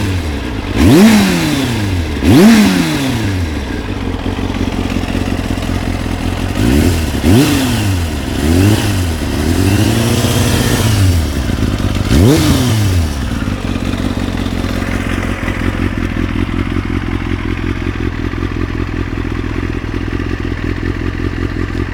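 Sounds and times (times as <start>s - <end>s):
motorcycle engine revving and idling: 0.0s - 21.9s.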